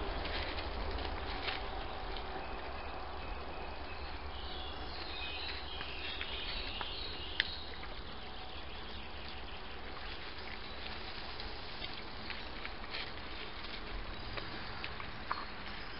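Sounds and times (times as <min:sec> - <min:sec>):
constant low hum: 0:00.0 - 0:15.9.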